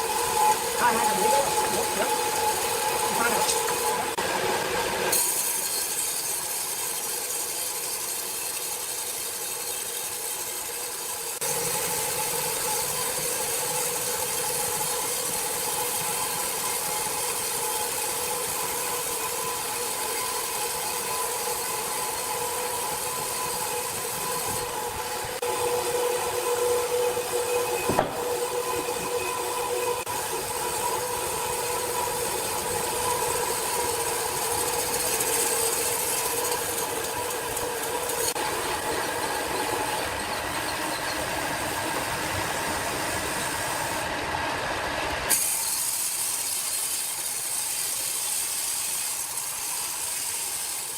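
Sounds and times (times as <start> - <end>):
sawmill machinery hissing and humming: 0.0 - 50.9.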